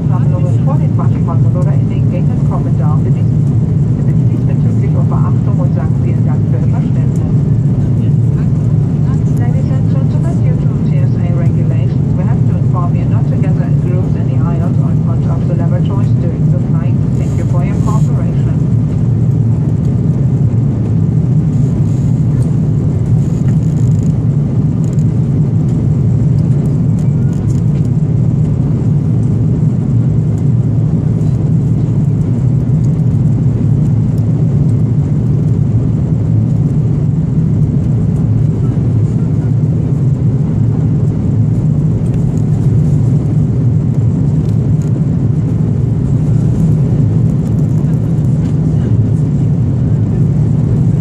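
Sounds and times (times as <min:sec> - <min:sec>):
airplane cabin engine roar: 0:00.0 - 0:51.0.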